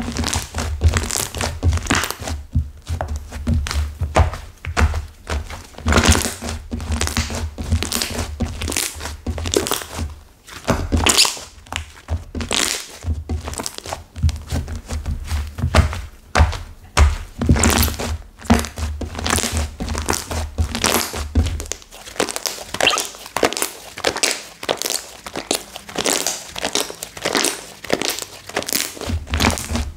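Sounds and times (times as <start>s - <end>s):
hardened slime crackling: 0.0s - 29.9s.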